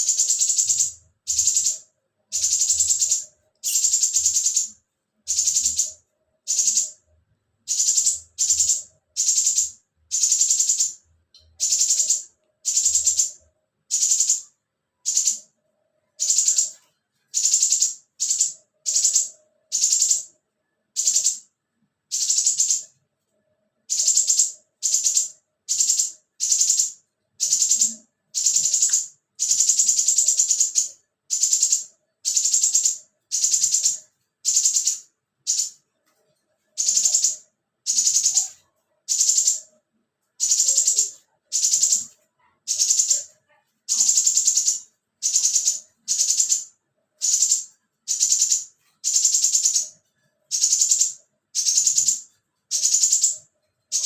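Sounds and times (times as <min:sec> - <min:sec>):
bird harsh buzzy rattling calls: 0:00.0 - 0:05.9, 0:06.5 - 0:07.0, 0:07.7 - 0:11.0, 0:11.6 - 0:14.4, 0:15.1 - 0:15.5, 0:16.2 - 0:16.7, 0:17.3 - 0:20.3, 0:22.1 - 0:22.8, 0:23.9 - 0:35.8, 0:36.7 - 0:39.7, 0:40.4 - 0:43.3, 0:43.9 - 0:54.0.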